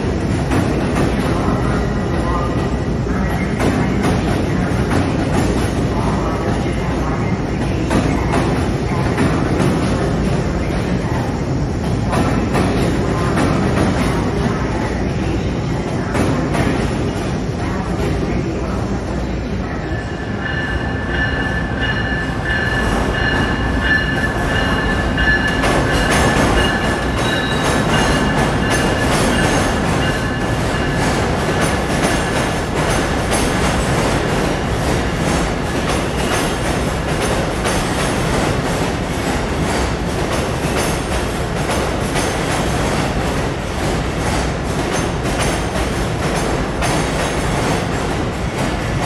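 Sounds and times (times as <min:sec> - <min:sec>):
train rumble: 0:00.0 - 0:49.0.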